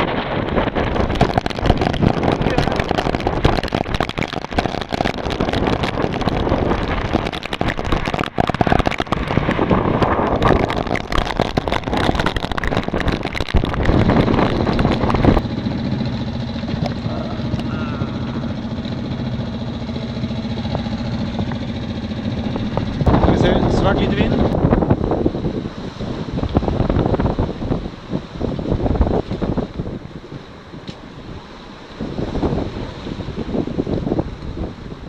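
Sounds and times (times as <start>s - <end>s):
boat engine droning: 0.0s - 35.0s
wind buffeting microphone: 0.0s - 35.0s.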